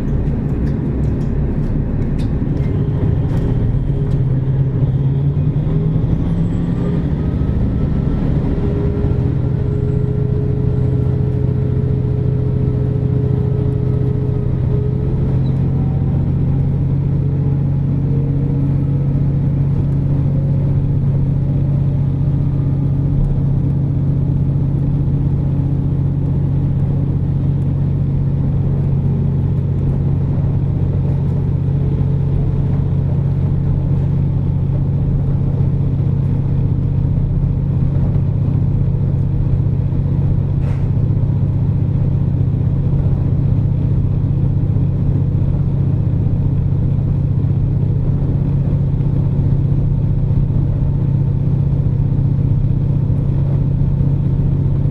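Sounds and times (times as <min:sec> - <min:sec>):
diesel engine drone: 0:00.0 - 0:54.9
wheels rumbling on rail: 0:00.0 - 0:54.9.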